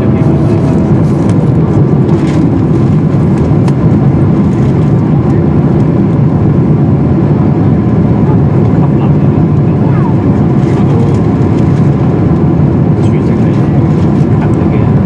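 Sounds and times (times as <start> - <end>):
airplane cabin engine noise: 0.0 - 15.0.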